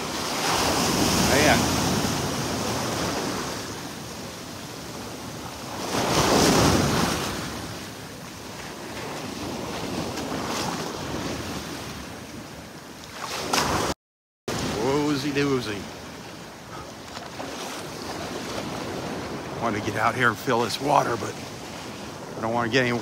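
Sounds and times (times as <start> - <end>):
small waves breaking on beach: 0.0 - 23.0.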